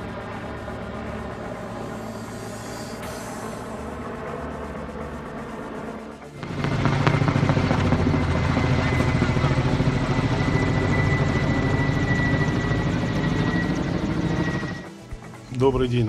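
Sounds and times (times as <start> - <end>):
helicopter rotor chop: 0.0 - 16.0
high turbine whine: 0.0 - 16.0.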